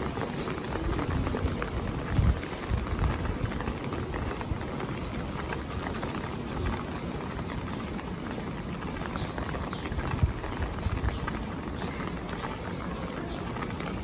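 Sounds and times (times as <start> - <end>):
footsteps on wet pavement: 0.0 - 14.0
rain pattering on umbrella: 0.0 - 14.0.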